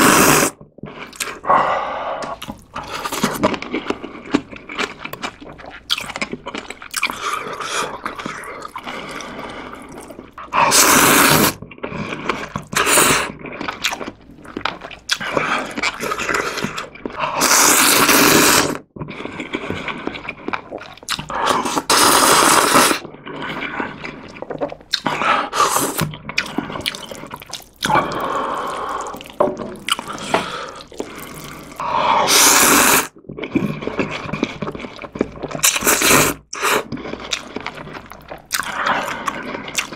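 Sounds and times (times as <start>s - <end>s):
loud noodle slurping: 0.0s - 5.8s, 7.0s - 14.0s, 15.1s - 39.9s
wet chewing: 2.2s - 39.9s.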